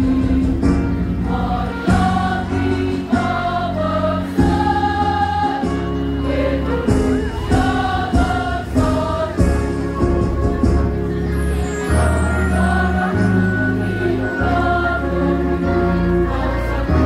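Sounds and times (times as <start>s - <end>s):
low accompaniment: 0.0s - 17.0s
women's choir singing: 1.2s - 17.0s.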